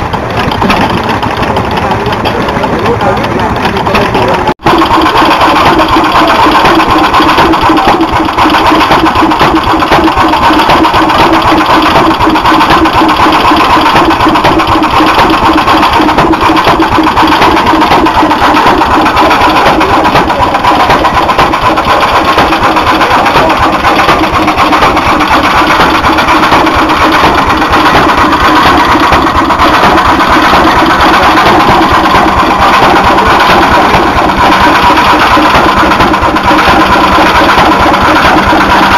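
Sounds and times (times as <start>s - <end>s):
stationary engine running: 0.0s - 38.9s.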